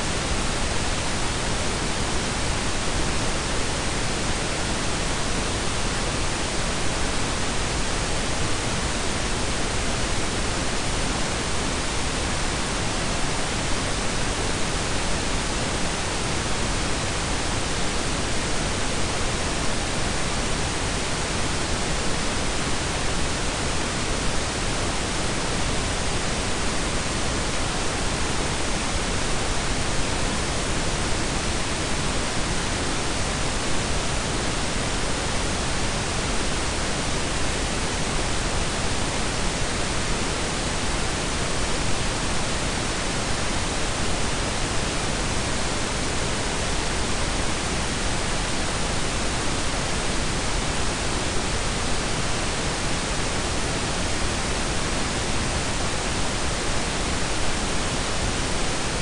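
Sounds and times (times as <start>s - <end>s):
steady noise hiss: 0.0s - 59.0s.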